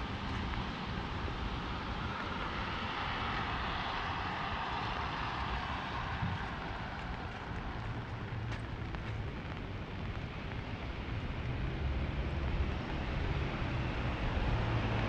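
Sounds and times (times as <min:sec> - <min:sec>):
passing traffic rumble: 0:00.0 - 0:15.0
rain hissing on street: 0:00.0 - 0:15.0.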